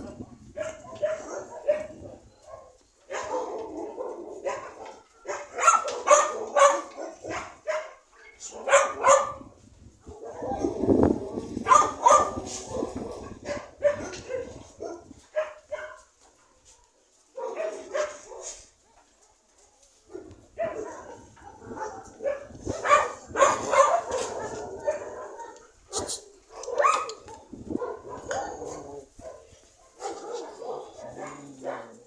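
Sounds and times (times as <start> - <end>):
dogs barking and yipping: 0.0 - 32.0.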